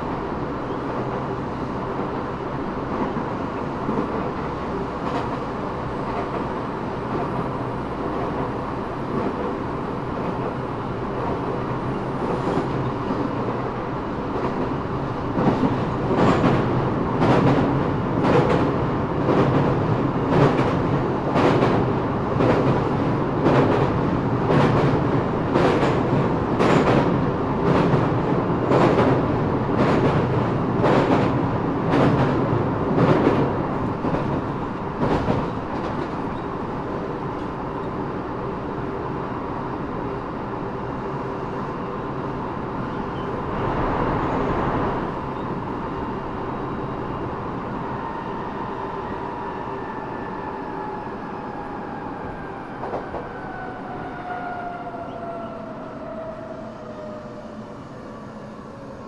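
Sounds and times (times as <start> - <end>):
subway car running rumble: 0.0 - 59.0.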